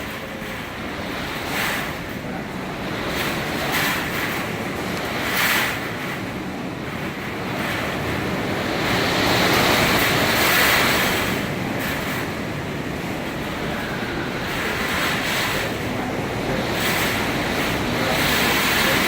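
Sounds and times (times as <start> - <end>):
hurricane winds gusting: 0.0 - 19.0.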